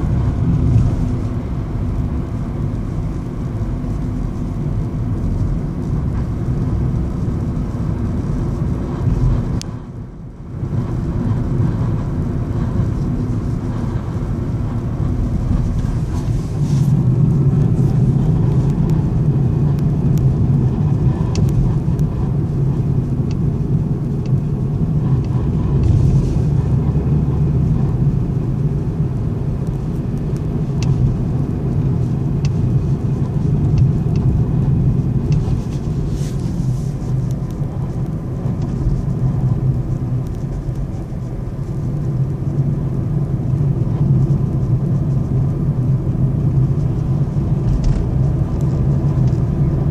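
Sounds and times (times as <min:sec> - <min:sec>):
car engine droning: 0:00.0 - 0:49.9.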